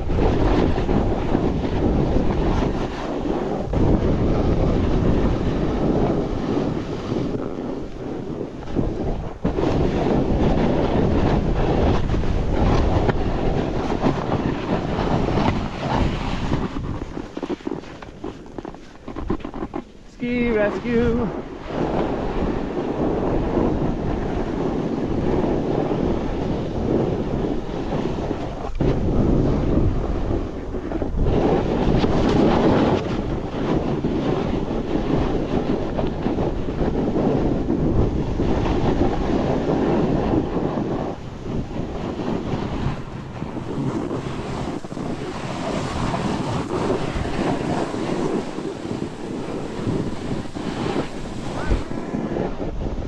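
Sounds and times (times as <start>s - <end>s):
snowboard scraping through snow: 0.0s - 53.0s
wind rumbling on microphone: 0.0s - 53.0s.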